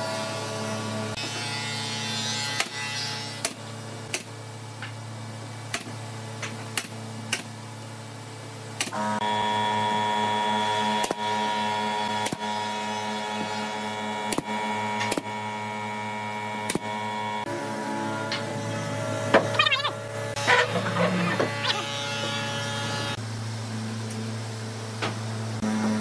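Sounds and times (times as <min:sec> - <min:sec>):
loud multi-tone hum: 0:00.0 - 0:26.0
steady machine hum: 0:03.4 - 0:26.0.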